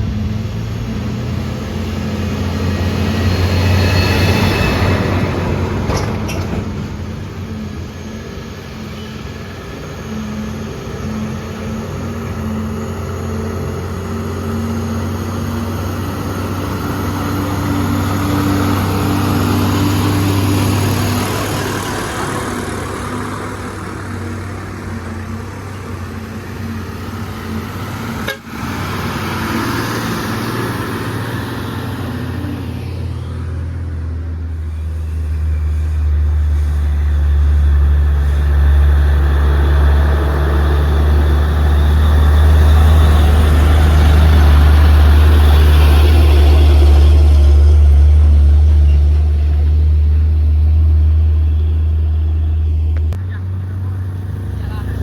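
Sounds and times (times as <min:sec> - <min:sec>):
truck engine under load: 0:00.0 - 0:55.0.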